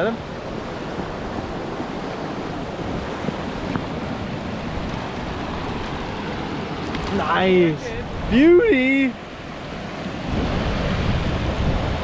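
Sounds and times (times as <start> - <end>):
whitewater rushing over rock: 0.0 - 12.0.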